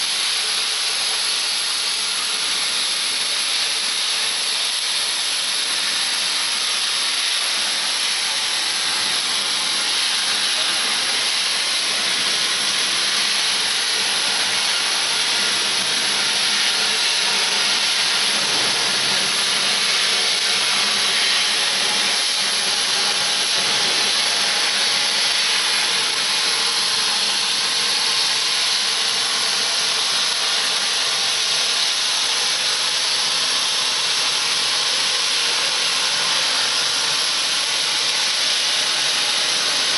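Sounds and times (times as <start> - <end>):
cutting machine hissing: 0.0 - 39.9.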